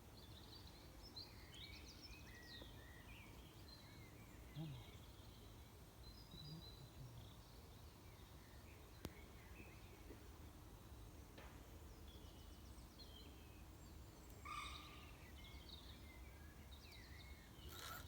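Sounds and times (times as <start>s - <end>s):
low outdoor background hum: 0.0s - 18.0s
small birds chirping: 0.1s - 10.1s, 11.9s - 18.0s.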